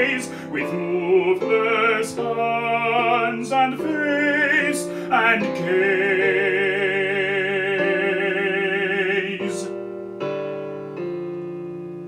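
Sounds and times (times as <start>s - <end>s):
man singing with vibrato: 0.0s - 9.8s
piano chords: 0.0s - 12.0s.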